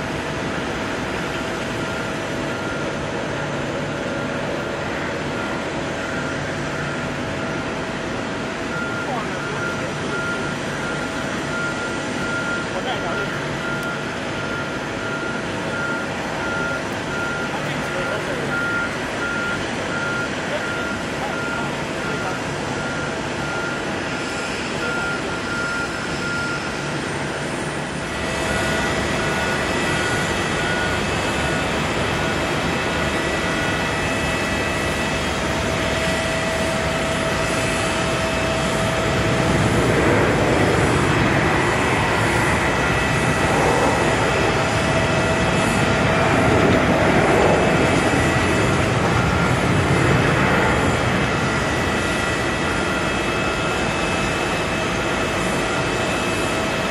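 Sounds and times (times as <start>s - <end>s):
jet engines whining: 0.0s - 56.9s
reversing alarm beeps: 0.0s - 56.9s.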